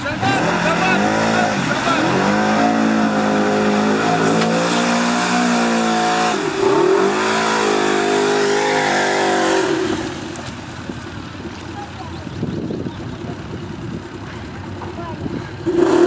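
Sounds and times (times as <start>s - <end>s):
vehicle engine revving high: 0.0s - 16.0s.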